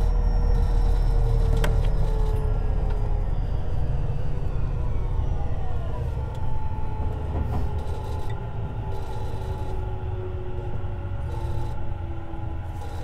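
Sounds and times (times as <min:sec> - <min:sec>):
train wheel and rail rumble: 0:00.0 - 0:13.0.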